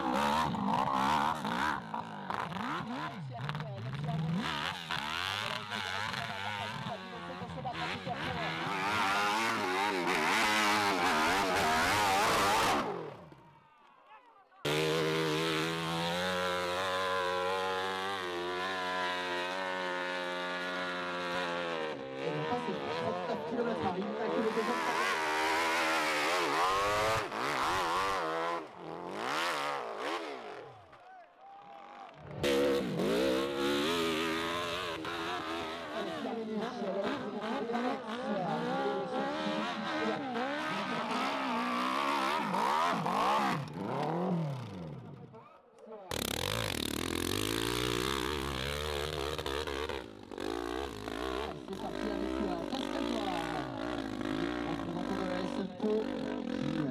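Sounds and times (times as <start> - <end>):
dirt bike engine revving hard: 0.0 - 3.2, 3.9 - 13.4, 14.6 - 30.8, 32.3 - 45.1, 46.1 - 56.9.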